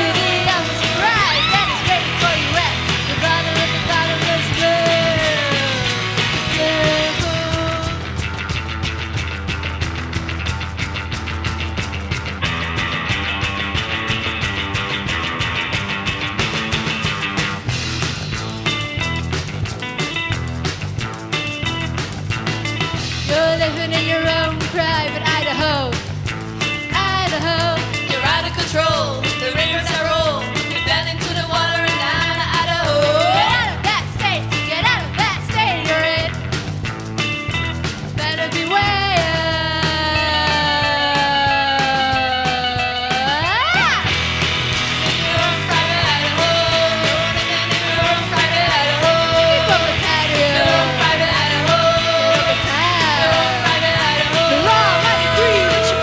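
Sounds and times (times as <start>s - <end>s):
bass: 0.0s - 56.0s
choppy guitar: 0.0s - 56.0s
drums: 0.0s - 56.0s
live punk rock band playing: 0.0s - 56.0s.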